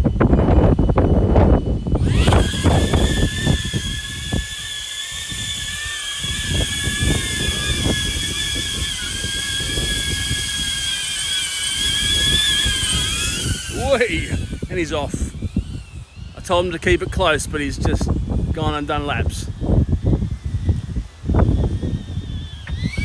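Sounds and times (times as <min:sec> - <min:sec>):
drone propellers whining: 0:00.0 - 0:23.0
wind buffeting microphone: 0:00.0 - 0:23.0.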